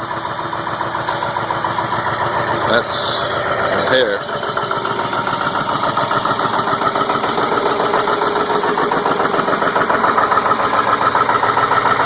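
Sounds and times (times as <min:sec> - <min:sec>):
diesel engine idling with clatter: 0:00.0 - 0:12.0.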